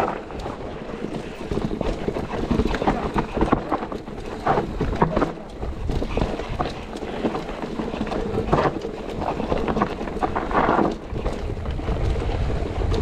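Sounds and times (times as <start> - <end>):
bike clattering and rattling: 0.0 - 13.0
tyres rumbling: 0.0 - 13.0.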